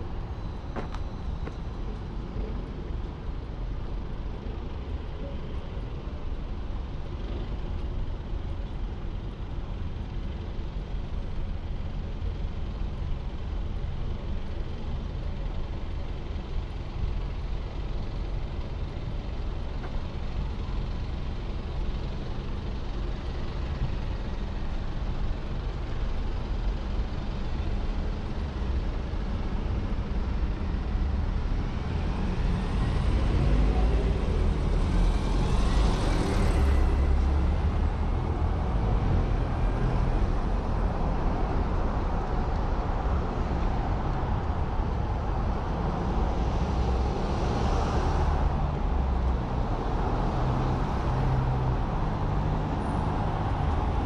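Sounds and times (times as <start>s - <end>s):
vehicle engines running: 0.0s - 54.0s.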